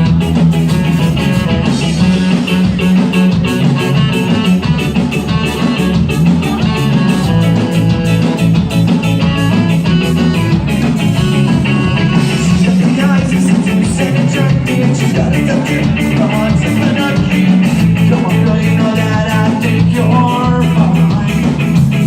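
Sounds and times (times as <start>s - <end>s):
drums with steady beat: 0.0s - 22.0s
electric guitar: 0.0s - 22.0s.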